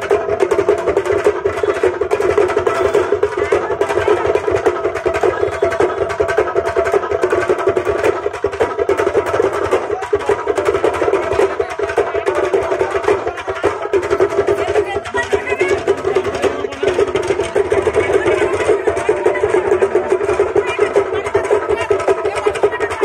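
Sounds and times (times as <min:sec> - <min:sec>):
festival music with fast drumming: 0:00.0 - 0:23.0.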